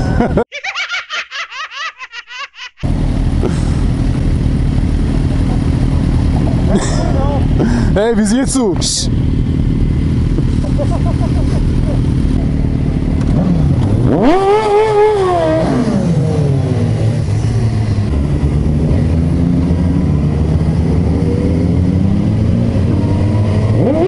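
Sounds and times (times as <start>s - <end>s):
motorcycle engines revving: 2.8s - 24.0s.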